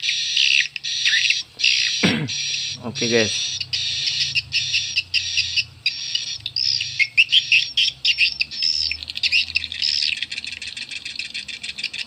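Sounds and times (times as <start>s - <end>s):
high twittering bird chirps: 0.0s - 12.0s.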